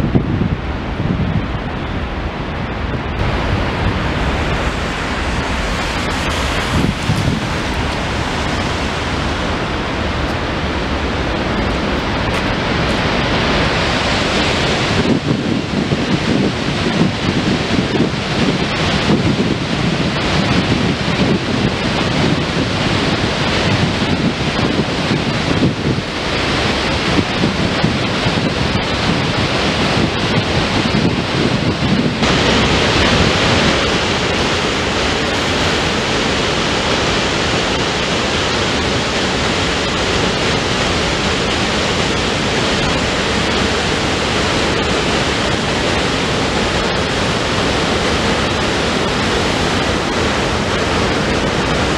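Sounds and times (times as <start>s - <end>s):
floodwater rushing roar: 0.0s - 51.9s.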